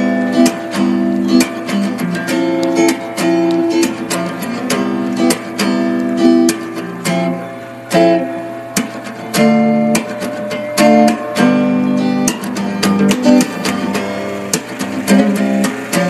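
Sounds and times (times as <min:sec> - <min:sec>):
guitar strumming and plucking: 0:00.0 - 0:16.0.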